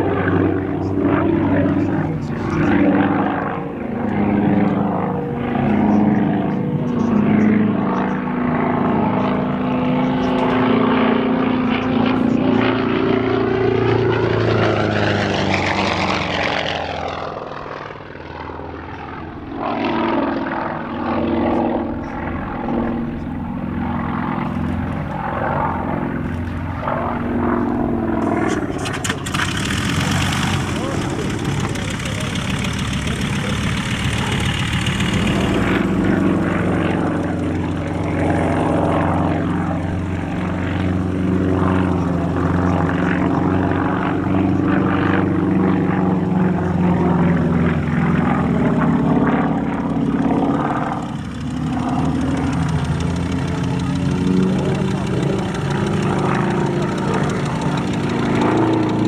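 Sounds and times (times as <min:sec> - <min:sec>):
aerobatic plane engine and propeller: 0:00.0 - 0:59.0.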